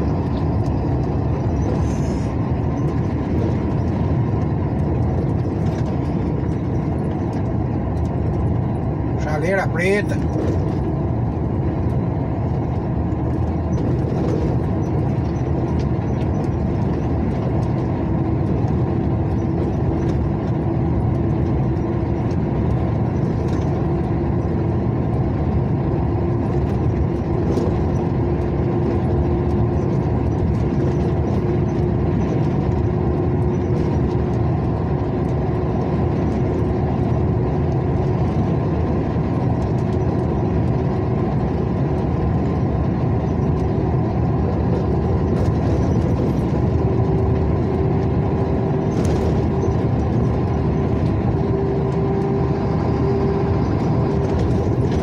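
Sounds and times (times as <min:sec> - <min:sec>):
vehicle engine and tyre noise: 0:00.0 - 0:55.0.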